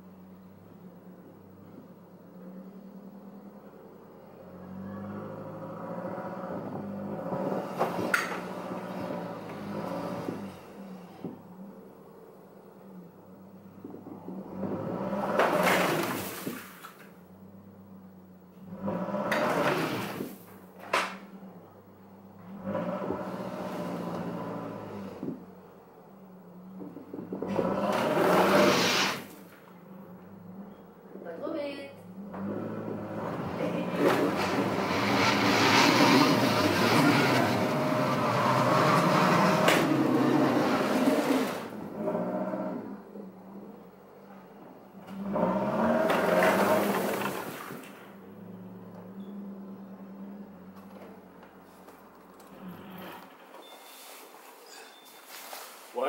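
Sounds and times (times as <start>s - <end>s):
car engine revving: 0.0s - 16.5s, 17.3s - 31.1s, 32.0s - 53.3s
tires churning snow: 0.0s - 54.6s.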